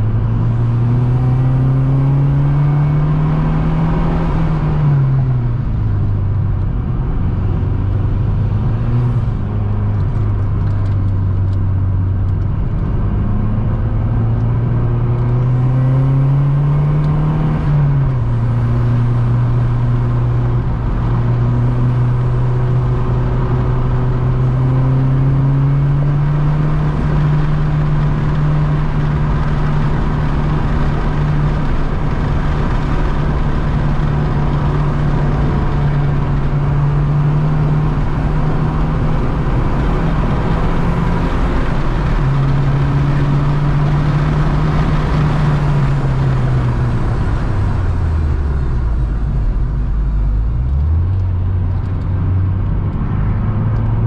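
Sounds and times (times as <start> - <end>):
car engine running hard: 0.0 - 54.0
road and wind noise: 0.0 - 54.0.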